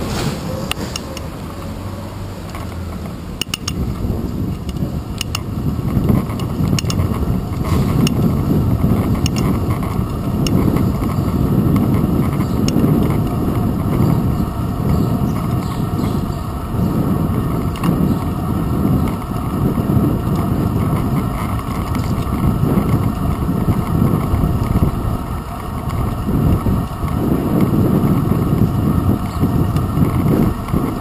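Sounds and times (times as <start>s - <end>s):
road rumble: 0.0s - 31.0s
wind: 0.0s - 31.0s
bicycle clicks and rattles: 0.7s - 1.3s, 2.4s - 31.0s.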